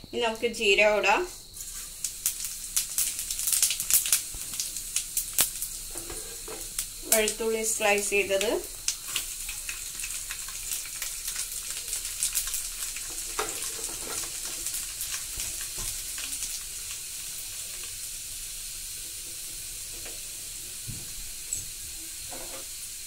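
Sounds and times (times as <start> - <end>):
spices sizzling in hot oil: 0.2 - 23.0
oil crackling and popping: 1.6 - 23.0.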